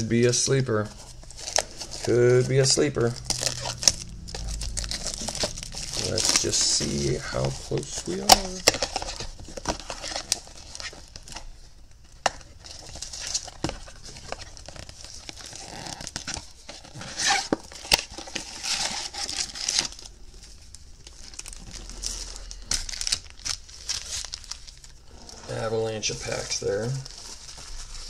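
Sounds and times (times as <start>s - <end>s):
card packs crinkling and rustling: 0.0s - 28.0s.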